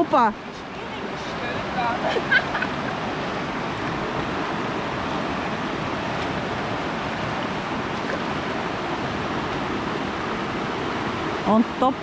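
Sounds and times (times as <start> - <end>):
shallow river running over gravel: 0.0 - 12.0.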